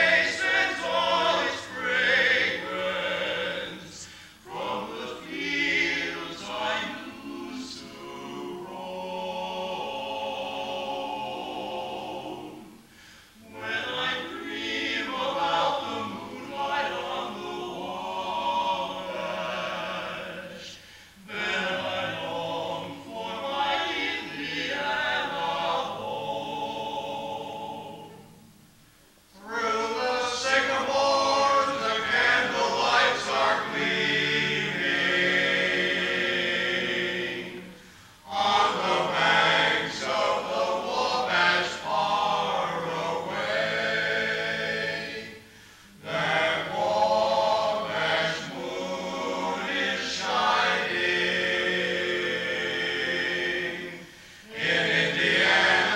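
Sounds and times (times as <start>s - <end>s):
men singing close harmony: 0.0s - 28.3s, 29.4s - 55.9s.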